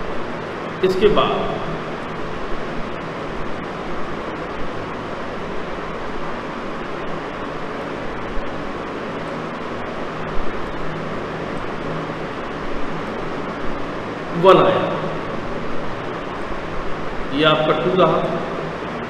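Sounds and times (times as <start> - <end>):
faint low hum: 0.0 - 19.0
room hiss: 0.0 - 19.0.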